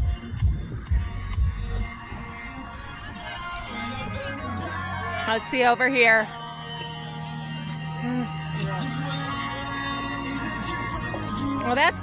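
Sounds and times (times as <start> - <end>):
music playing: 0.0 - 12.0.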